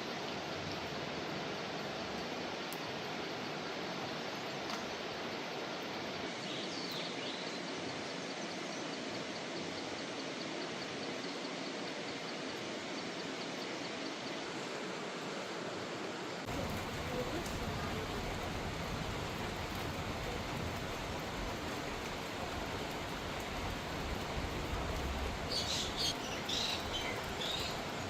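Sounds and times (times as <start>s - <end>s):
rushing stream water: 0.0s - 28.0s.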